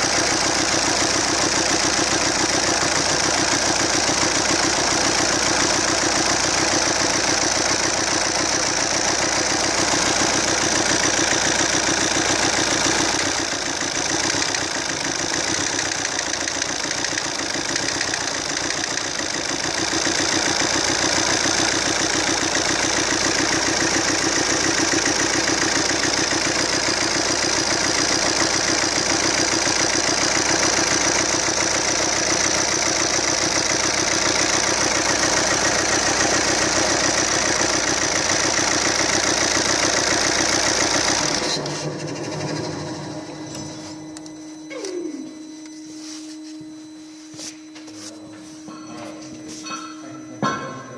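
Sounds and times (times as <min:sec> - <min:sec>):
diesel engine idling with knock: 0:00.0 - 0:43.7.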